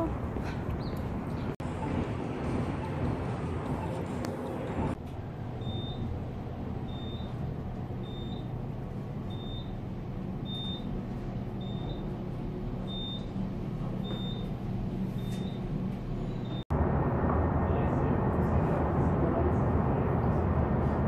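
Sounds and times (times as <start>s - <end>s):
elevator car humming and rumbling: 0.0s - 21.0s.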